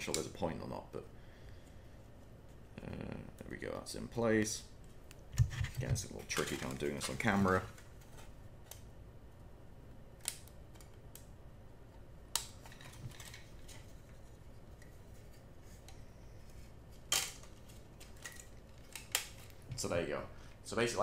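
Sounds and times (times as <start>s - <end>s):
faint room noise: 0.0s - 21.0s.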